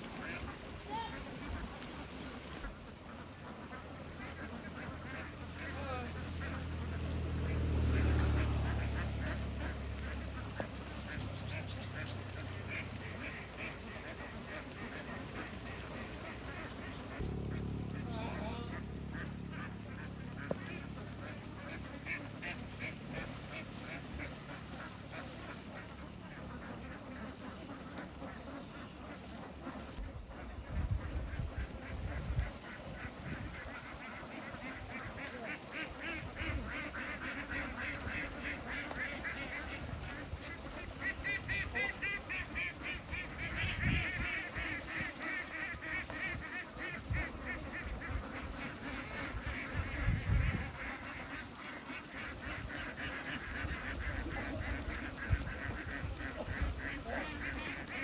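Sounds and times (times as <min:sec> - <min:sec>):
flock of ducks quacking: 0:00.0 - 0:58.0.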